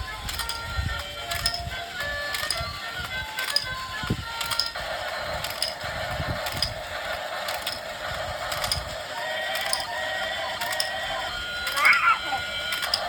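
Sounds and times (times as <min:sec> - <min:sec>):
toy mechanism whirring and clicking: 0:00.0 - 0:13.0.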